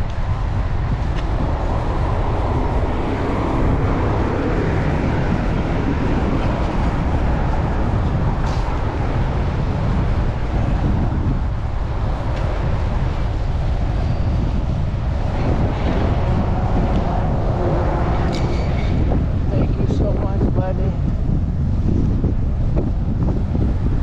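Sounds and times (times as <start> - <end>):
road traffic noise: 0.0 - 24.0
wind buffeting microphone: 0.0 - 24.0.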